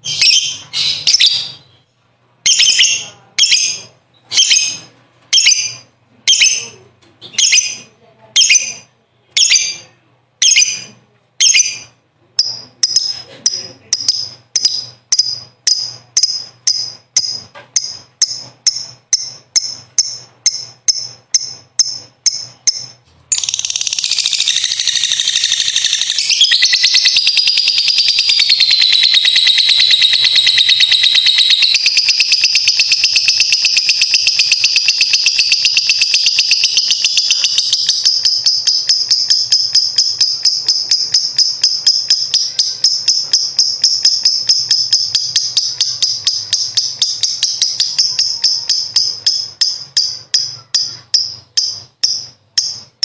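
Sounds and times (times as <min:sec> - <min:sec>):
lovebird chirping and trilling: 0:00.0 - 0:53.0.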